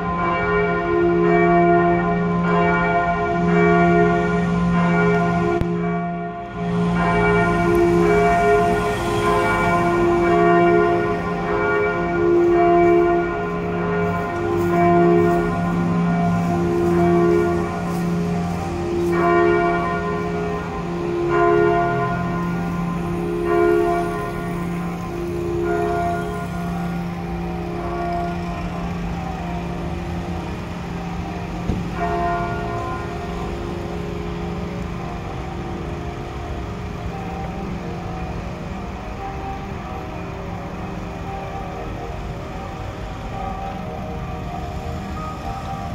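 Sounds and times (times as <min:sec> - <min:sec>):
church bell ringing: 0:00.0 - 0:45.9.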